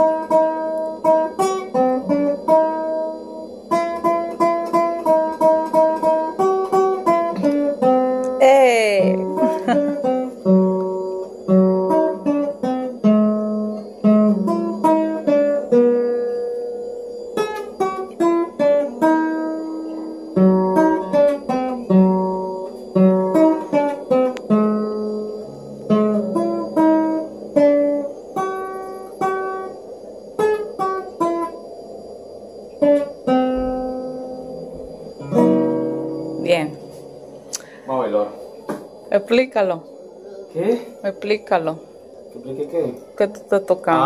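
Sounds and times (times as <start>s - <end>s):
classical guitar melody: 0.0s - 37.8s.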